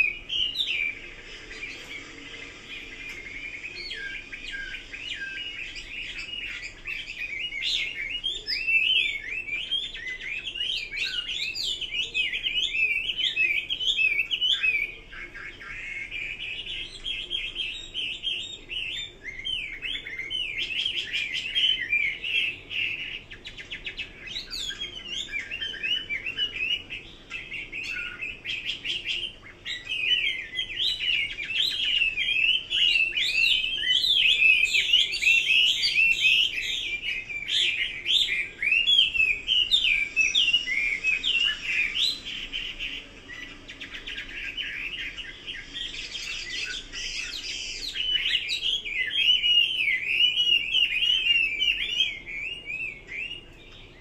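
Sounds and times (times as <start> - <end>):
bird singing whistled phrases: 0.0 - 54.0.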